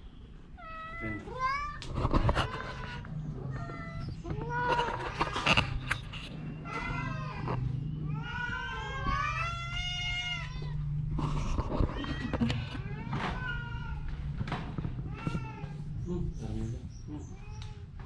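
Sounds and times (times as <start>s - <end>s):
cat meowing: 0.6s - 16.4s.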